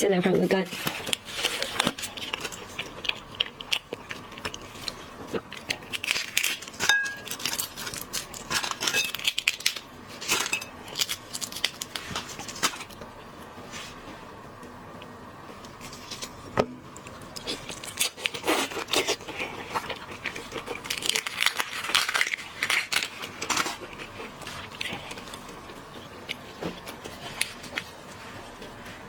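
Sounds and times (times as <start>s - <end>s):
food crackling and crinkling: 0.0s - 29.0s
person chewing food: 0.8s - 13.9s, 15.0s - 29.0s.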